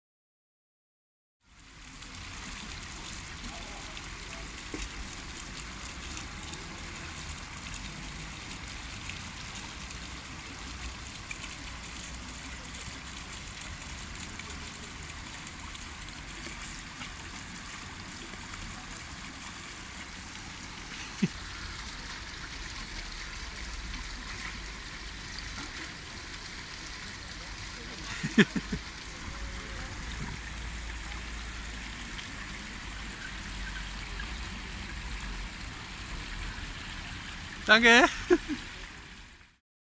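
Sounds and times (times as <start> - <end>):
fountain jets splashing on stone: 1.4 - 39.6.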